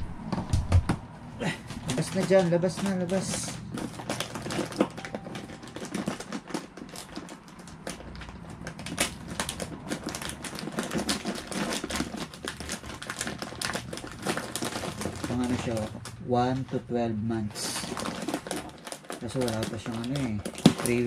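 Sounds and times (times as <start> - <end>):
plastic bag crinkling: 1.4 - 21.0.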